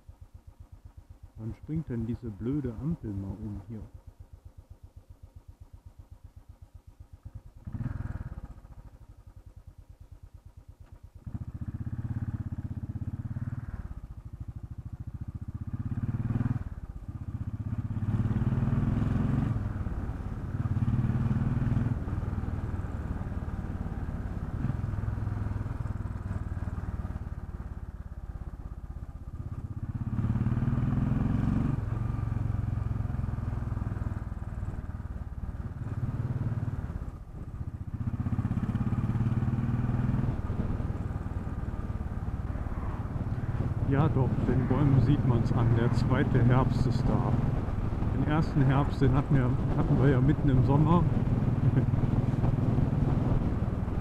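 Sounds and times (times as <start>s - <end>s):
motorcycle engine idling and accelerating: 0.0s - 54.0s.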